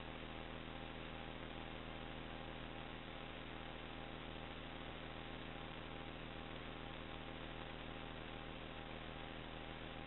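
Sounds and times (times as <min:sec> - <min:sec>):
electrical hum: 0:00.0 - 0:10.0
steady hiss: 0:00.0 - 0:10.0.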